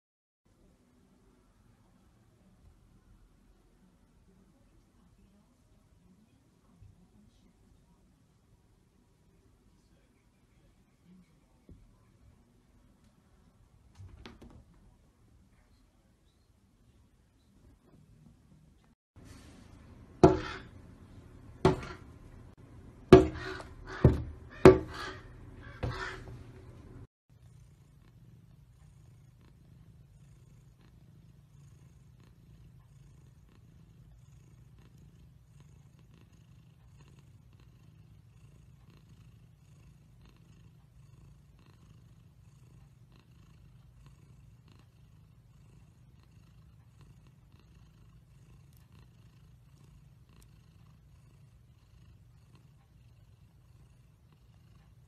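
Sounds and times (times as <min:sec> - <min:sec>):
cat purring: 0:00.6 - 0:55.0.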